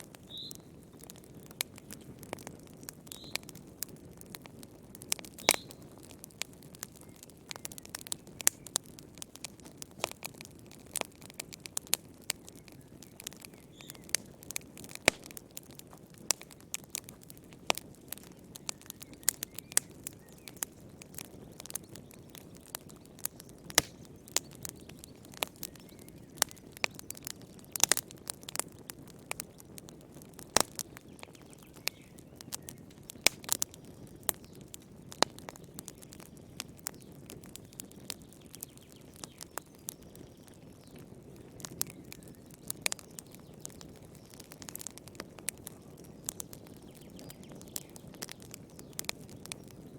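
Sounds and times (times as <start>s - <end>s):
fireplace fire crackling: 0.0s - 49.9s
low rumble of flame: 0.0s - 49.9s.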